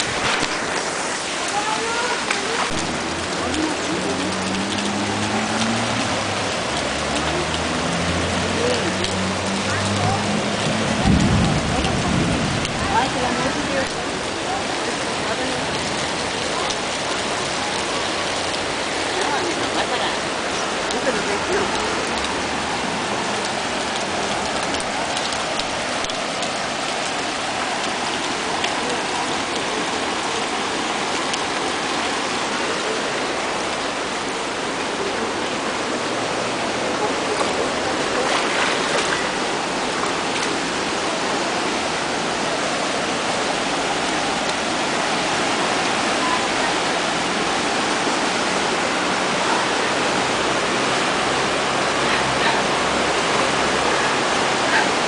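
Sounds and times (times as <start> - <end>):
floodwater rushing: 0.0 - 55.0
rain falling: 0.0 - 55.0.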